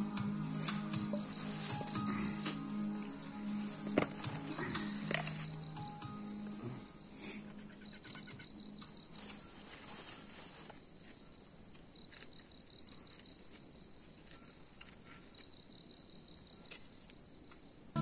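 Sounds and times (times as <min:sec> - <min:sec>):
crickets and insects chirring: 0:00.0 - 0:18.0
rapidly pulsing insect trill: 0:00.0 - 0:18.0.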